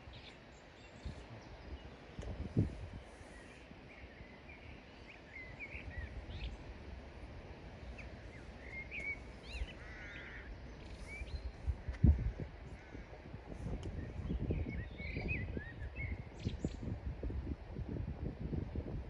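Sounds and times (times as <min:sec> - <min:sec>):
small birds chirping: 0:00.0 - 0:06.8, 0:07.7 - 0:17.0
low gusty rumble: 0:01.0 - 0:19.0.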